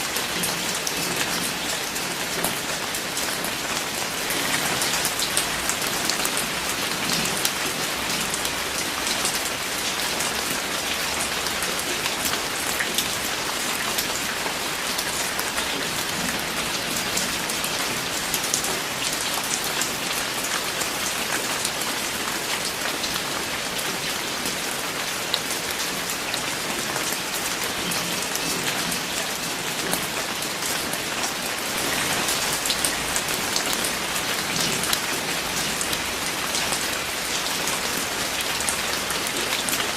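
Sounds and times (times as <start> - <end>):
raindrops pattering on surface: 0.0 - 39.9
steady rain hiss: 0.0 - 39.9.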